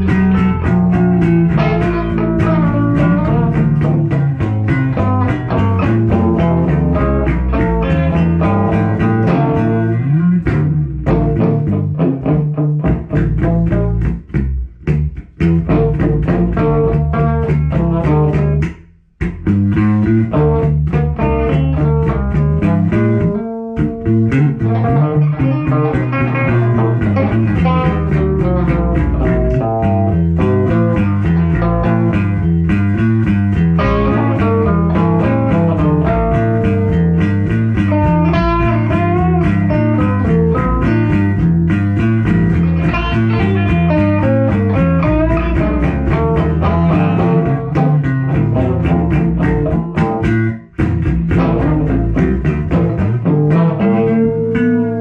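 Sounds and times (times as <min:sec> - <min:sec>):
bass guitar: 0:00.0 - 0:55.0
blues guitar: 0:00.0 - 0:55.0.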